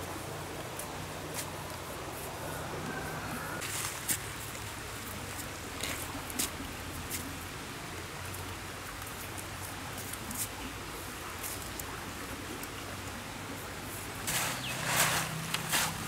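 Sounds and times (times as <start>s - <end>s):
small stream running: 0.0s - 16.0s.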